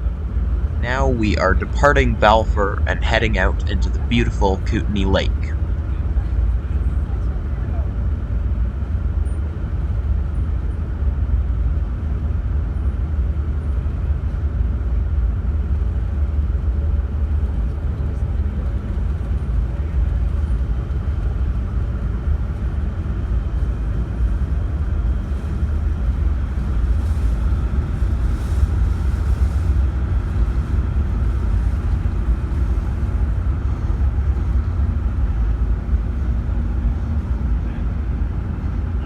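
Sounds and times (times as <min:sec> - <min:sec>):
ferry engine low rumble: 0:00.0 - 0:39.0.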